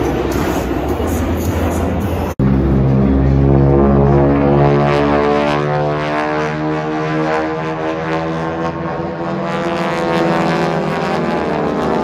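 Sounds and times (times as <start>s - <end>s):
propeller planes droning overhead: 0.0s - 12.0s.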